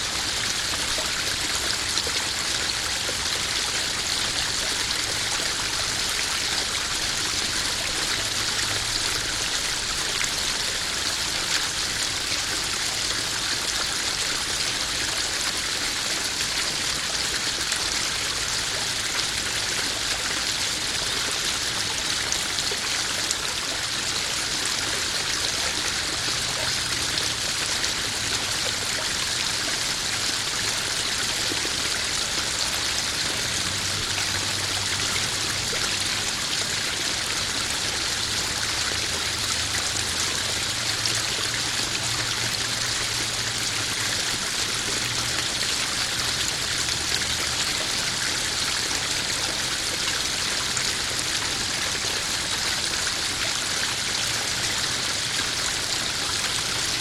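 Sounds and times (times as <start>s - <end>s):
waterfall splashing into pond: 0.0s - 57.0s.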